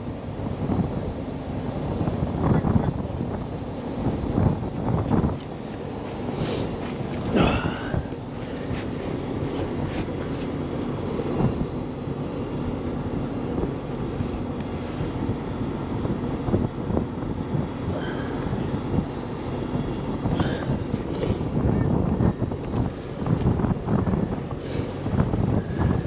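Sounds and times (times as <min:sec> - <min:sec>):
heavy truck engine running: 0:00.0 - 0:26.0.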